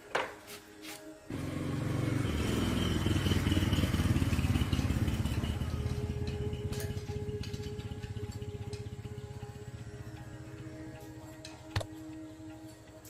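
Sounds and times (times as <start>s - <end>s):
small motorcycle engine running: 1.3s - 12.8s.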